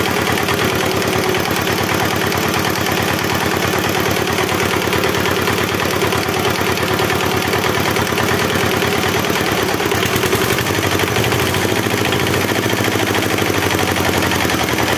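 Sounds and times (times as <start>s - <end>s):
diesel engine idling chug: 0.0s - 14.9s.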